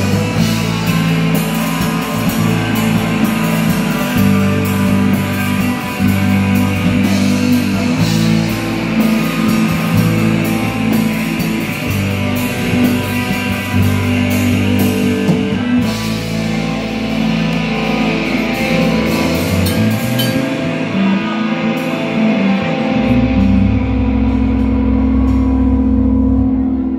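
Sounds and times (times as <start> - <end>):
bass guitar: 0.0 - 26.9
drum kit: 0.0 - 26.9
electric guitars: 0.0 - 26.9.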